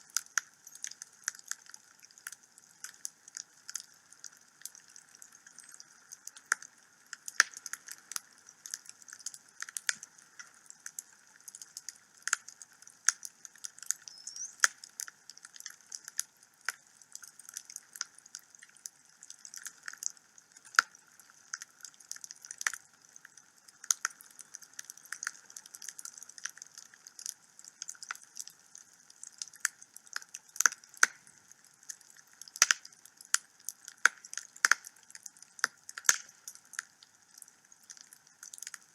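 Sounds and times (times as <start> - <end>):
wood fire crackling: 0.1 - 38.9.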